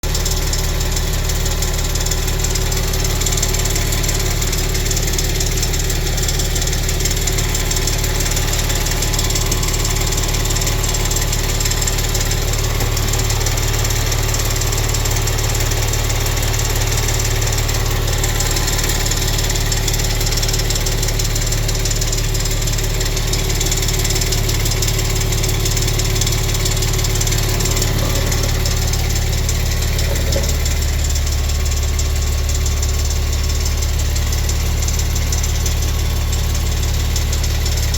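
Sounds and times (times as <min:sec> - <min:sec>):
car engine idling: 0:00.0 - 0:37.9
rapid ticking under turbo: 0:00.0 - 0:37.9.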